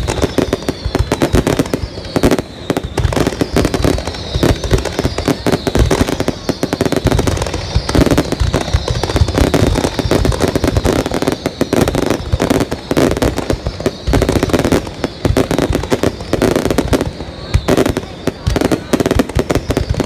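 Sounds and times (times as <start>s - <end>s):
fireworks bangs and crackles: 0.0s - 20.0s
faint thin whistle: 0.1s - 20.0s.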